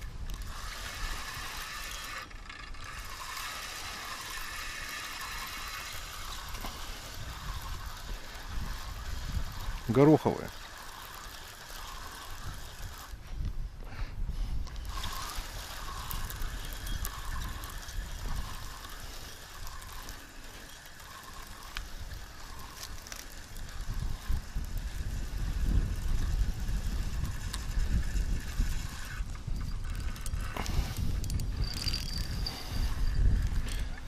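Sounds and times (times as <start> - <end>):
small clicks: 0.0 - 13.6, 14.5 - 34.0
wind buffeting microphone: 0.0 - 34.0.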